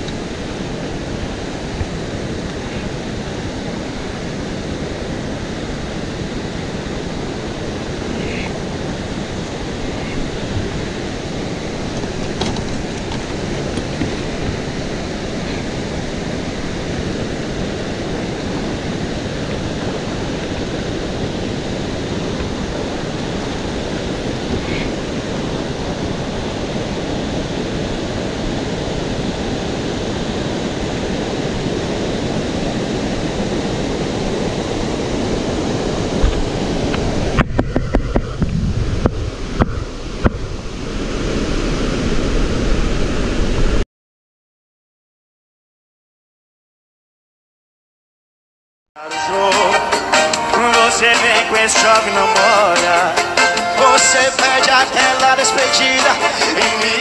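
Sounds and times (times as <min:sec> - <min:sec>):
waterfall roaring: 0:00.0 - 0:43.8, 0:49.2 - 0:57.0.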